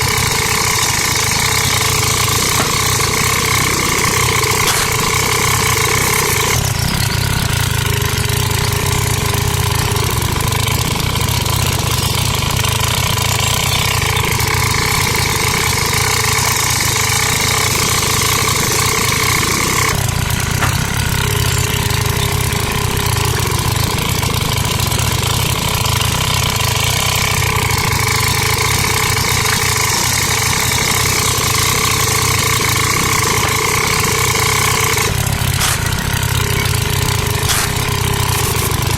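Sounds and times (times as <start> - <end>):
tractor engine idling with whine: 0.0 - 38.9.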